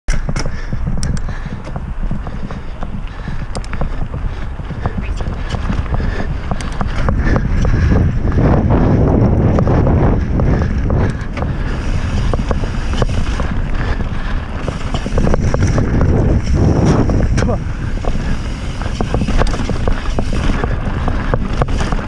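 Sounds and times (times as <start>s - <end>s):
bike clicks and rattles: 0.1s - 22.0s
tyres rumbling on gravel: 0.1s - 22.0s
wind buffeting microphone: 0.1s - 22.0s.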